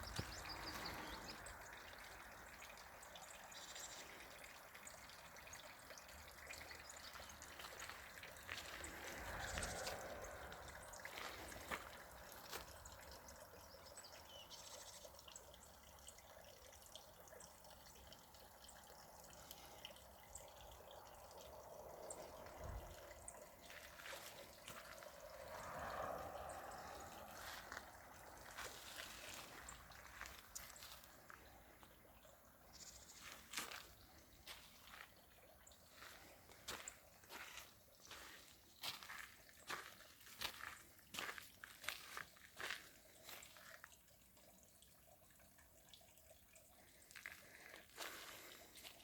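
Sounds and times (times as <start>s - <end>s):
small water drips: 0.0s - 49.0s
water trickling and splashing: 0.0s - 49.0s.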